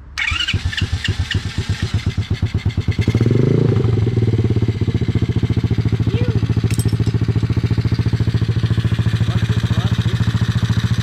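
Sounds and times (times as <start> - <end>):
motorbike engine revving and idling: 0.2 - 11.0.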